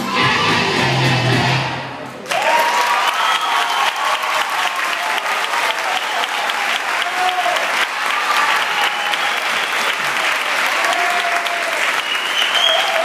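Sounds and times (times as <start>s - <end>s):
audience applauding: 2.2s - 13.0s.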